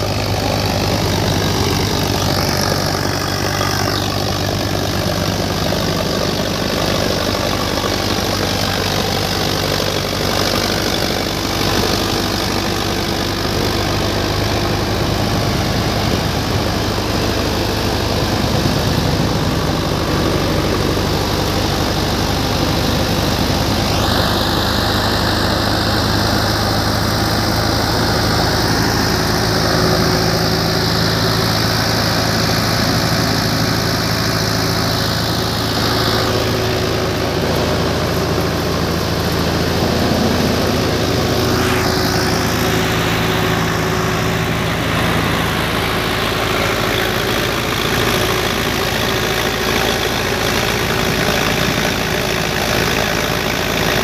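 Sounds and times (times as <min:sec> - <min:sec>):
threshing drum whirring: 0:00.0 - 0:54.0
tractor diesel engine running: 0:00.0 - 0:54.0.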